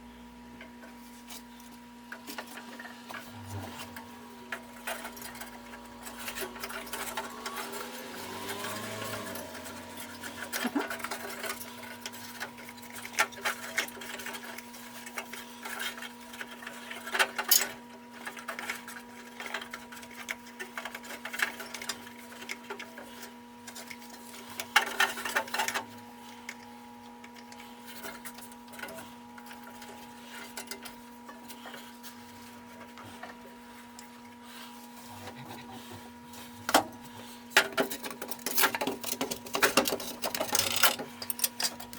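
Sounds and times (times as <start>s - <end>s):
steady mechanical hum: 0.0s - 41.9s.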